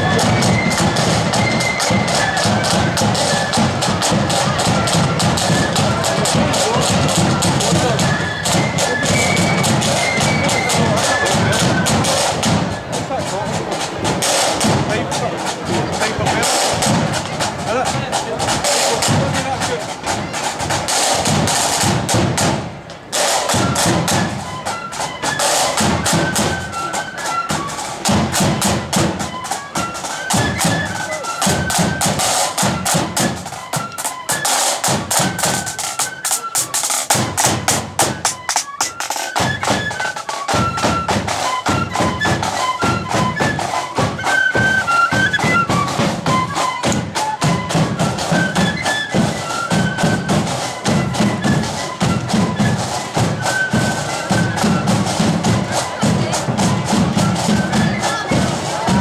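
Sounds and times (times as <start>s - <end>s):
flute melody: 0.0s - 59.0s
side drums: 0.0s - 59.0s.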